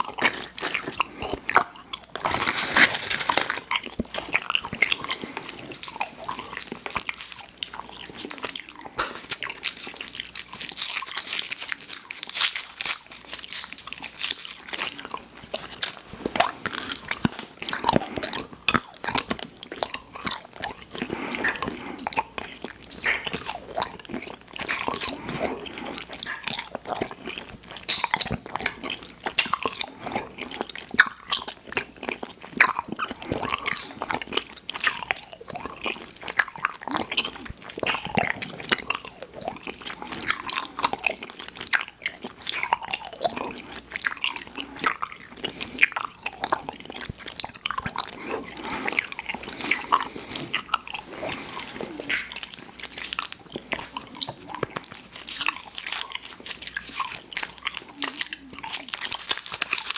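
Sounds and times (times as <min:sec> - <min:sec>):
person chewing sweets: 0:00.0 - 0:59.9.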